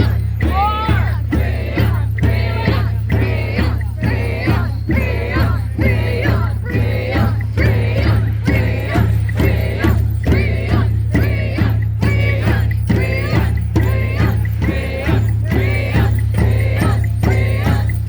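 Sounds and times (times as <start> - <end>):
jingling: 0.0 - 18.0
music with steady beat: 0.0 - 18.0.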